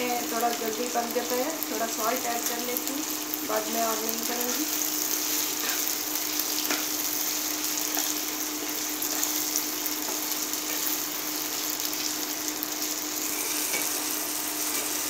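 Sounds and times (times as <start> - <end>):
onion and tomato sizzling in oil: 0.0 - 15.0.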